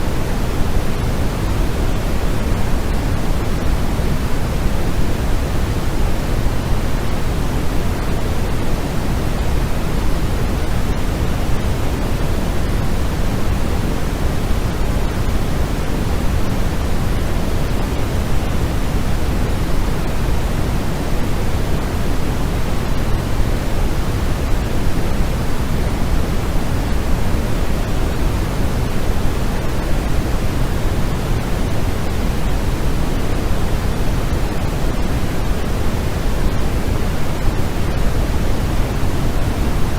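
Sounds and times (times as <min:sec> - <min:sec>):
deep soft white noise: 0:00.0 - 0:39.9.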